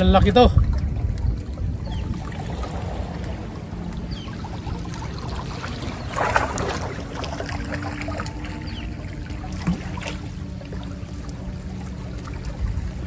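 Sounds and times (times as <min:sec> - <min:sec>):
low rumble of wind or water: 0:00.0 - 0:13.0.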